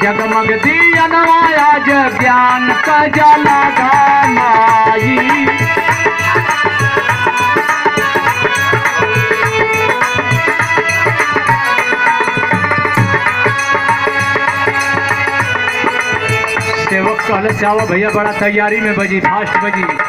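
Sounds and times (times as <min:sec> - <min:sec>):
folk music: 0:00.0 - 0:20.0
hand drum beat: 0:00.0 - 0:20.0.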